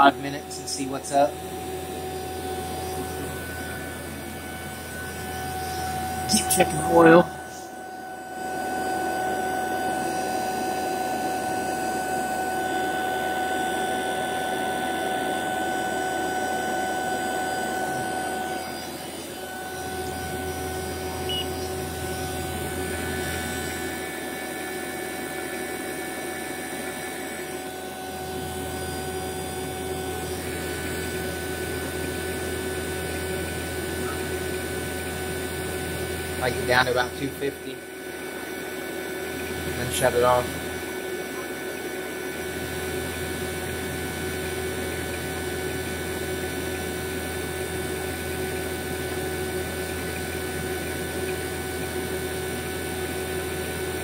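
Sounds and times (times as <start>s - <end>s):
vacuum pump humming and whining: 0.0s - 54.0s.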